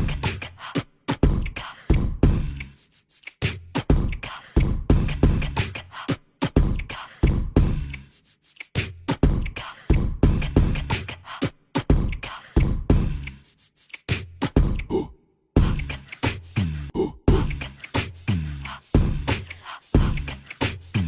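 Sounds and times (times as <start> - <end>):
punchy beat music with heavy bass: 0.0 - 14.9, 15.6 - 21.0.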